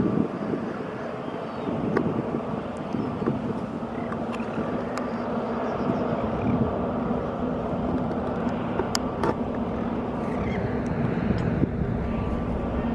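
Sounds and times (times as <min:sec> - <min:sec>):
mechanical drone with low hum: 0:00.0 - 0:12.9
wind on microphone: 0:00.0 - 0:12.9.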